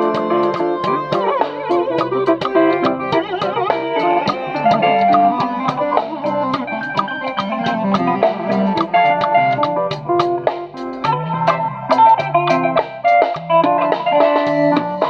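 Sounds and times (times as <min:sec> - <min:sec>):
guitars holding notes: 0:00.0 - 0:15.0
steady drum beat: 0:00.0 - 0:15.0.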